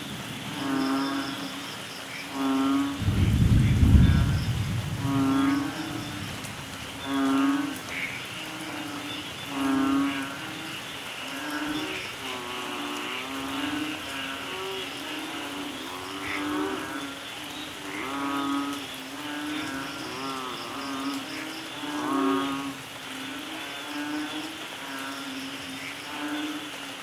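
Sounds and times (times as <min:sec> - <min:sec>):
frogs croaking: 0:00.0 - 0:27.0
rain hissing: 0:00.0 - 0:27.0.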